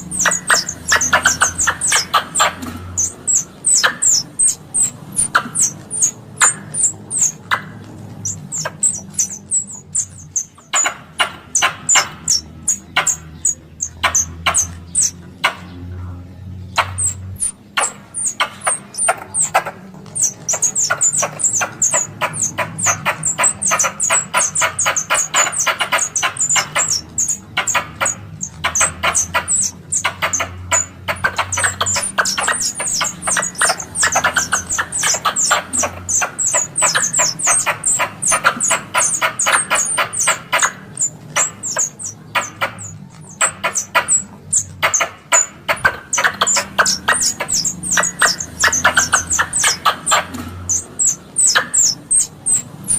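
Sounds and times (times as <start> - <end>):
squirrel call chattering: 0.0 - 15.9, 16.6 - 52.9.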